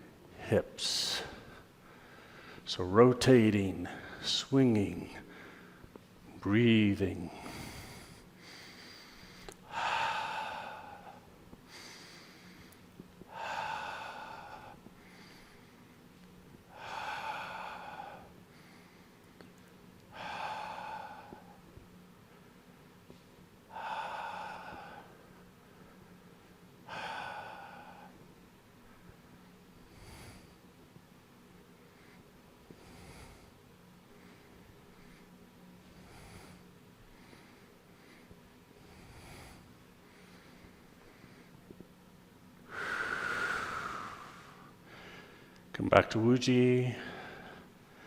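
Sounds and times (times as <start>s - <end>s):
person breathing softly: 1.0s - 2.7s, 3.8s - 4.3s, 5.0s - 6.1s, 7.3s - 30.7s, 31.6s - 42.0s, 42.6s - 45.7s, 46.9s - 48.0s.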